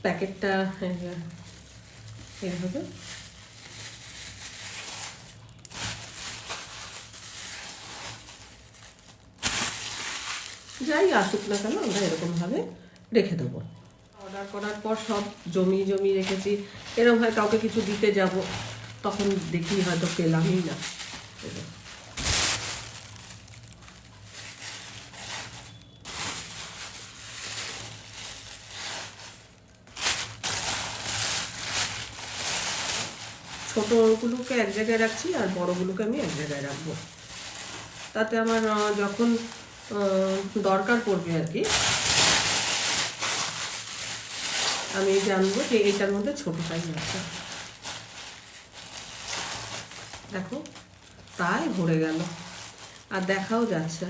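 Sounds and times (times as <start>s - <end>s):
plastic bags rustling: 0.0s - 54.0s.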